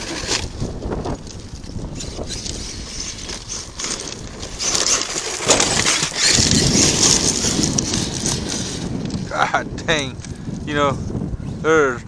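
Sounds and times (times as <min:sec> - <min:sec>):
rc truck crunching over rocks: 0:00.0 - 0:11.2.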